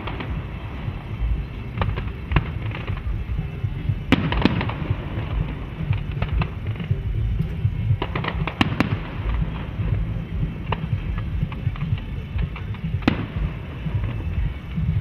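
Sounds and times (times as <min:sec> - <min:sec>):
fireworks bangs: 0:00.0 - 0:15.0
low rumble: 0:00.0 - 0:15.0.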